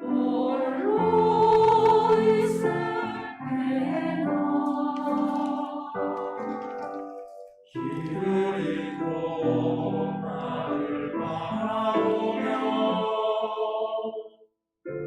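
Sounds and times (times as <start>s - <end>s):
church choir singing a hymn: 0.0s - 14.4s.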